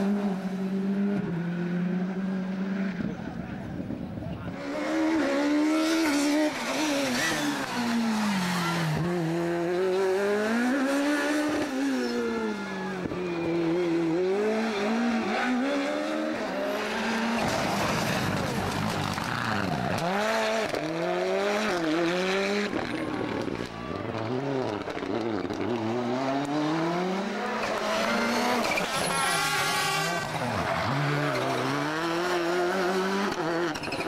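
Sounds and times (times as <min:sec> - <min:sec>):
rally car engines revving: 0:00.0 - 0:34.0.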